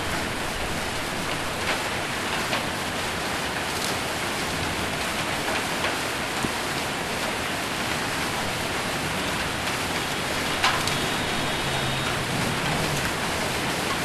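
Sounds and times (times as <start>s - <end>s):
heavy rain and hail on a roof: 0.0s - 14.0s.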